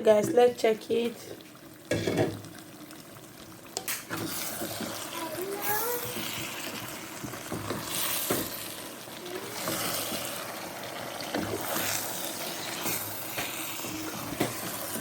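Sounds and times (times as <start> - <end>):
sauce bubbling in a pot: 0.0 - 15.0.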